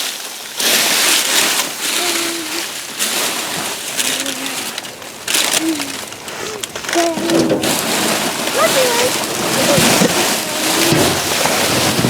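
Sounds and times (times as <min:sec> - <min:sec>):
bags rustling and crunching: 0:00.0 - 0:12.0.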